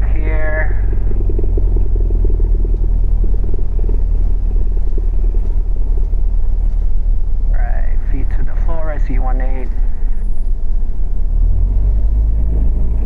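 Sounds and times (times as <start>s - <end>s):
plane piston engine droning: 0.0s - 13.0s.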